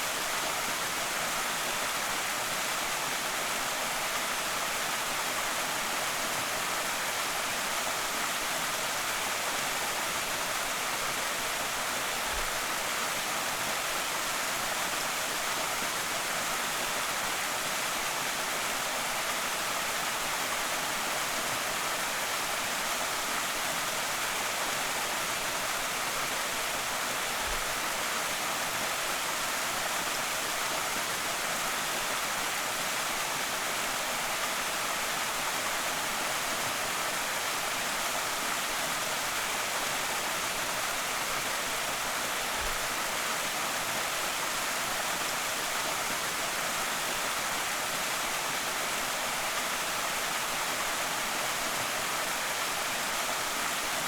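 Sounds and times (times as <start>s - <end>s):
creek waterfall splashing: 0.0s - 54.0s.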